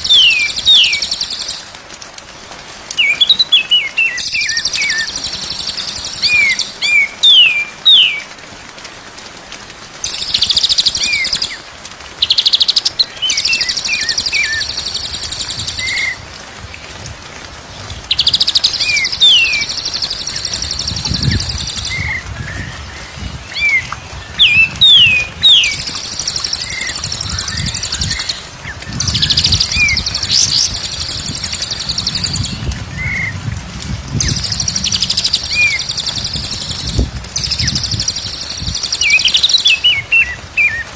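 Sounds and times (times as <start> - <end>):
bird song with whistles and trills: 0.0 - 1.7, 3.0 - 8.3, 12.2 - 16.2, 18.1 - 33.4, 34.2 - 40.9.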